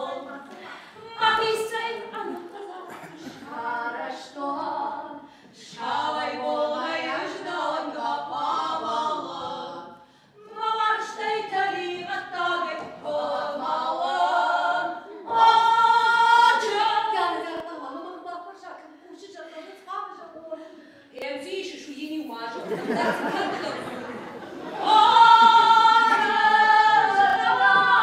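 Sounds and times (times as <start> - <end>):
women singing unaccompanied: 0.0 - 23.7, 24.6 - 28.0.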